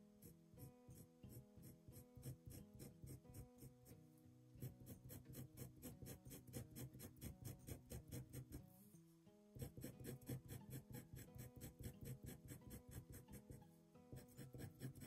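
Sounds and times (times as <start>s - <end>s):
acoustic guitar music: 0.1s - 15.0s
marker scratching on paper: 0.9s - 3.9s, 4.6s - 8.6s, 9.6s - 15.0s.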